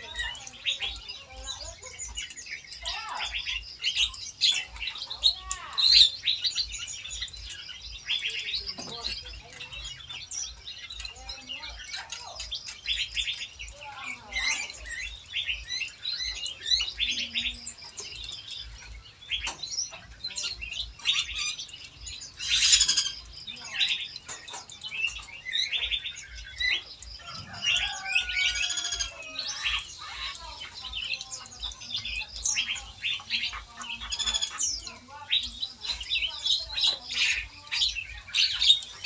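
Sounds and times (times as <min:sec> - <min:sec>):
small birds chirping and trilling: 0:00.0 - 0:39.0.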